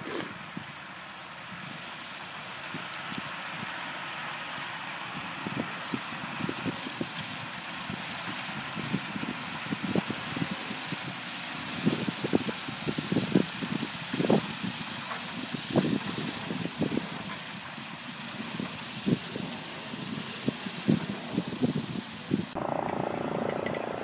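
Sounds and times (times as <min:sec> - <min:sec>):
tractor engine: 0:00.0 - 0:24.0.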